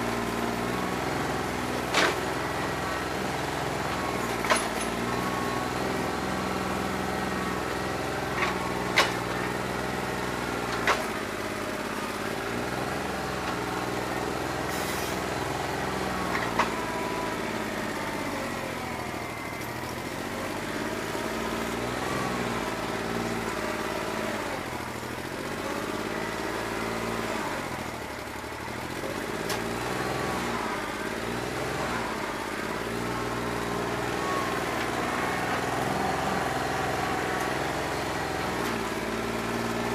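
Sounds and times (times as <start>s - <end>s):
diesel engine running unevenly: 0.0s - 39.9s.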